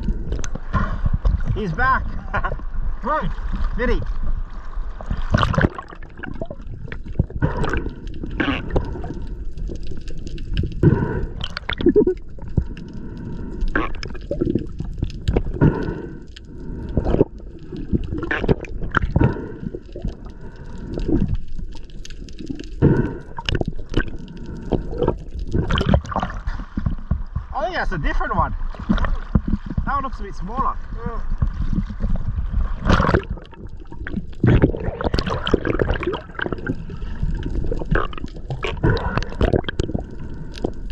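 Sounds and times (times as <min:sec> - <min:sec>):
low rumble: 0:00.0 - 0:40.9
muffled underwater gurgling: 0:04.9 - 0:40.9.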